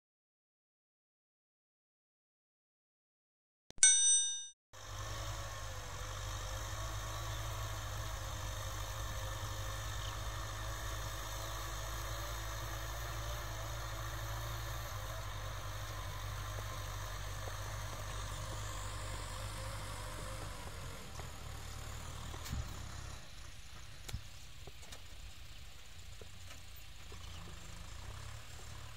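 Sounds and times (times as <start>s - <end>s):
tractor diesel engine running: 4.8s - 28.9s.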